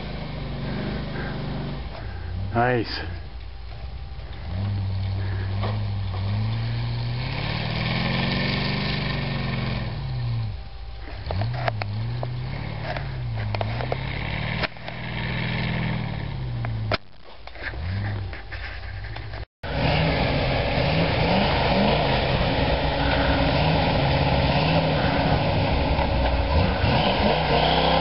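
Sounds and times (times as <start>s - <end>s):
truck engine revving: 0.0s - 3.0s, 4.2s - 16.9s, 19.6s - 28.0s
wheels spinning in snow: 3.7s - 28.0s.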